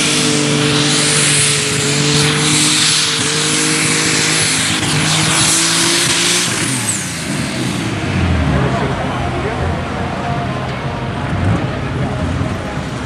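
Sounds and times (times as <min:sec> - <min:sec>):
high whine: 0:00.0 - 0:13.0.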